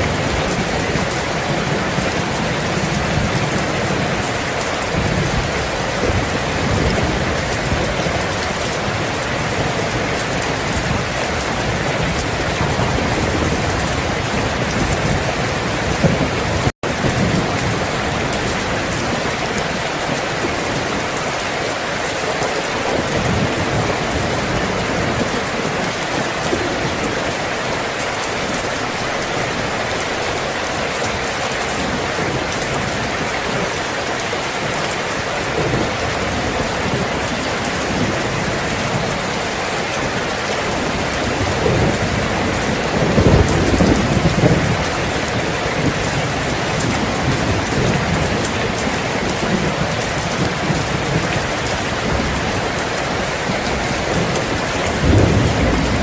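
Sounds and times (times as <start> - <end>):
steady dense rain: 0.0 - 56.0.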